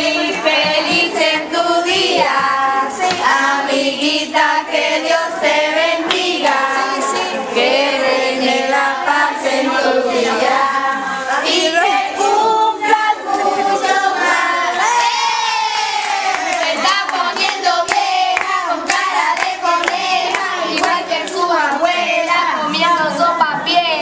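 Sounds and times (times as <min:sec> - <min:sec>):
girls singing in unison: 0:00.0 - 0:24.0.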